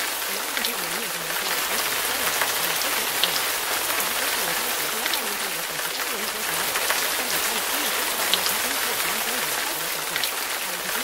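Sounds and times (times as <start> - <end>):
faint low voice reciting: 0.0 - 11.0
rain: 0.0 - 11.0.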